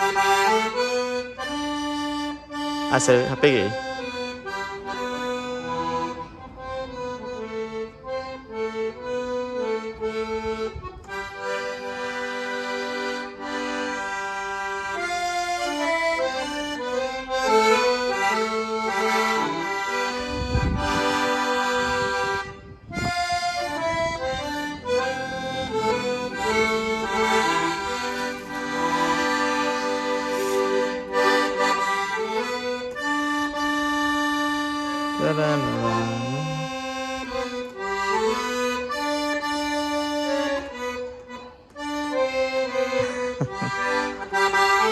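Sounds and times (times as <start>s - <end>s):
accordion playing lively tune: 0.0s - 44.9s.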